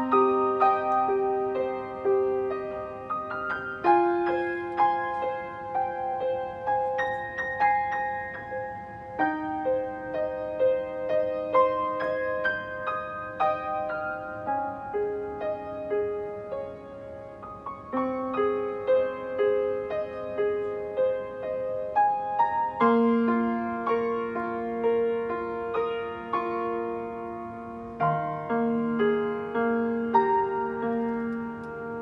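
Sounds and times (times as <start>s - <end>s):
grand piano playing: 0.0s - 32.0s.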